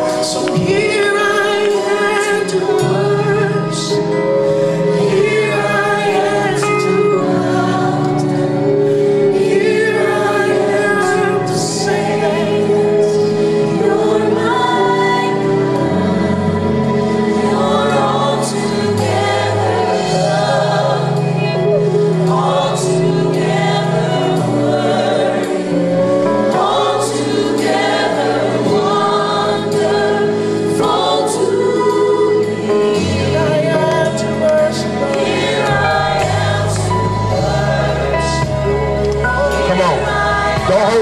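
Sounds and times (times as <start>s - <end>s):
choir singing gospel: 0.0s - 41.0s.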